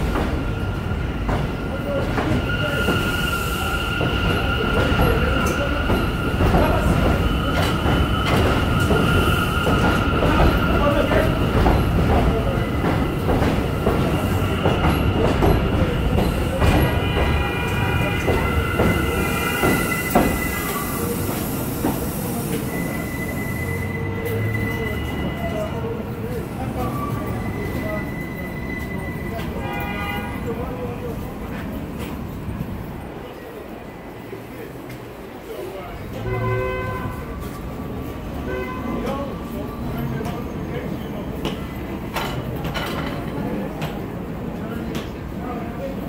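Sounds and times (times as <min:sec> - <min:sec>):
subway train wheels squealing: 0:00.0 - 0:46.0.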